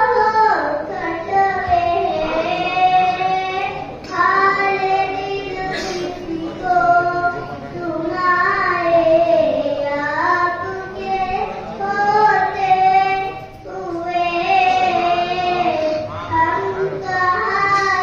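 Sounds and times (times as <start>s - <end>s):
boy singing devotional song: 0.0s - 18.0s.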